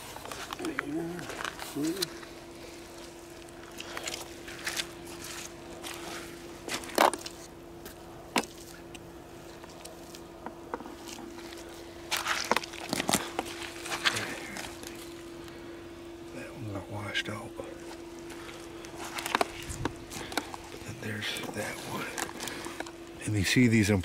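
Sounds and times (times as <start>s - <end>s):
footsteps crunching on a trail: 0.0s - 15.7s, 17.8s - 23.1s
faint steady hum: 0.0s - 24.0s.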